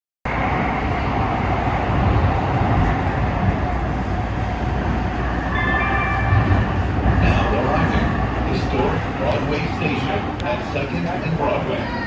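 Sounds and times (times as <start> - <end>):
light rail train rumbling: 0.3 - 12.0.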